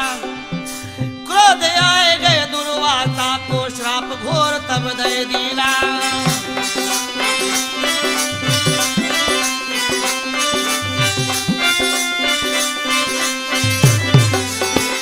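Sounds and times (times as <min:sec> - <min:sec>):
harmonium chords and melody: 0:00.0 - 0:15.0
percussion beat: 0:00.0 - 0:15.0.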